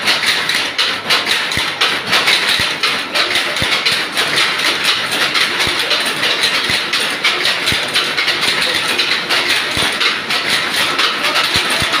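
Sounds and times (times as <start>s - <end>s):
power loom clattering: 0.0s - 12.0s.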